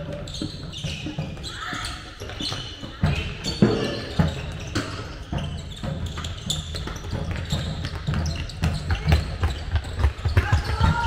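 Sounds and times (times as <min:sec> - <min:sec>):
ball bouncing on hall floor: 0:00.0 - 0:11.0
running footsteps: 0:00.0 - 0:11.0.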